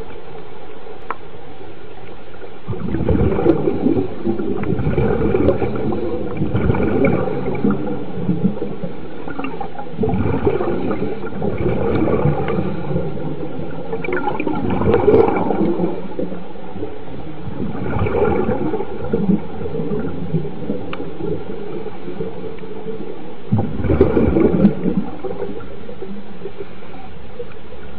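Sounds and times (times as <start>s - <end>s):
underwater bubbling and gurgling: 0.0s - 27.9s
watery rush: 2.3s - 26.9s.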